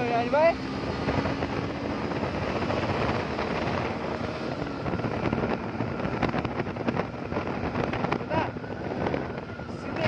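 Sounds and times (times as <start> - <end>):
motorcycle engine hum: 0.0 - 10.0
wind rushing over microphone: 0.0 - 10.0.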